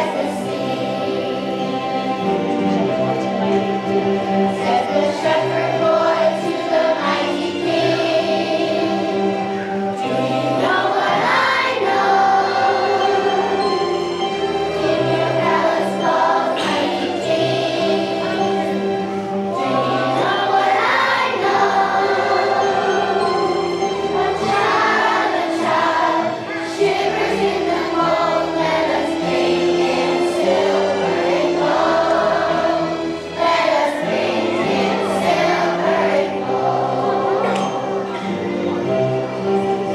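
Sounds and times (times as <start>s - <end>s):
children's choir singing: 0.0s - 39.9s
instrumental accompaniment: 0.0s - 39.9s.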